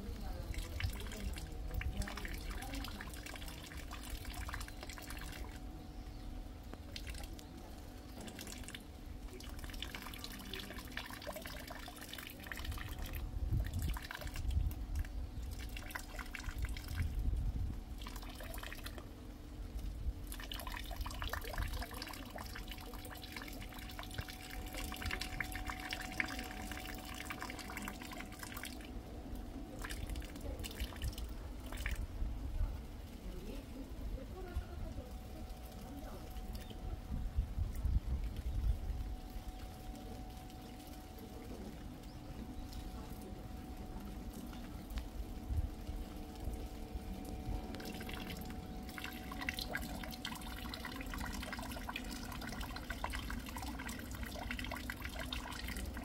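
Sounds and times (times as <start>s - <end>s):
faint steady hum: 0.0s - 56.0s
rainwater dripping and splashing: 0.0s - 56.0s.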